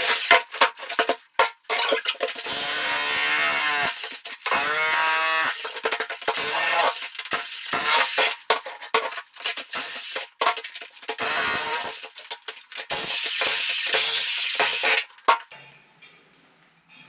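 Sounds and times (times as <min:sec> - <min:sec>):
demolition hammer chiselling concrete: 0:00.0 - 0:15.5.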